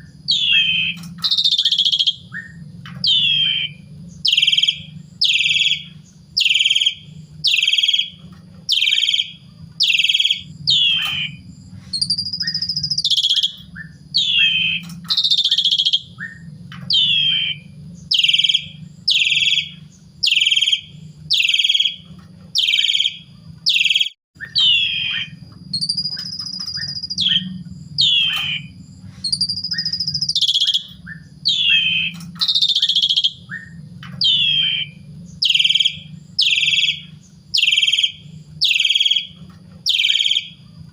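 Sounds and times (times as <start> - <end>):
starling whistling song: 0.0 - 40.9
steady low hum: 0.0 - 40.9.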